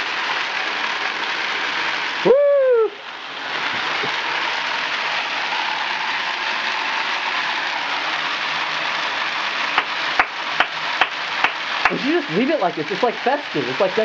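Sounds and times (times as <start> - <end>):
fake snow spray hissing: 0.0 - 14.0.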